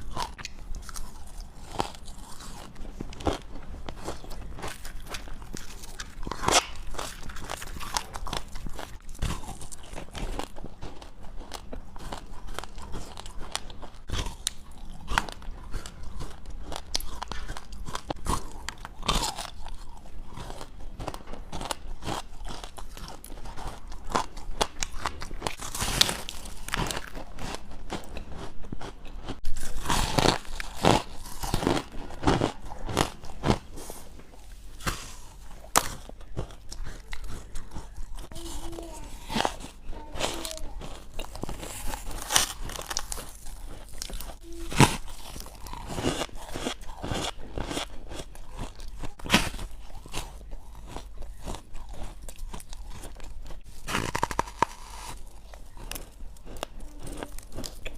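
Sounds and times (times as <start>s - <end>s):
crunching and chewing ice: 0.0s - 57.9s.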